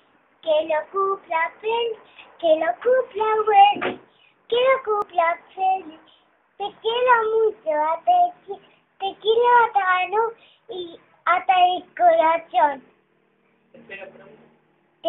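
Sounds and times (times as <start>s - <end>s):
girl singing: 0.4s - 12.9s.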